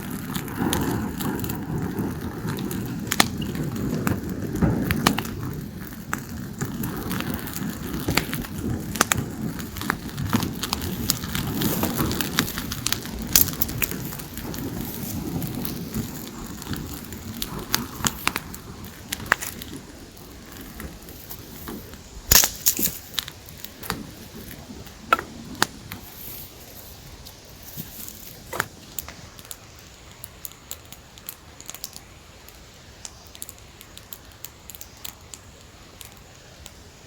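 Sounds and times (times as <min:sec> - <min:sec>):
dry wood crackling and snapping: 0:00.0 - 0:36.8.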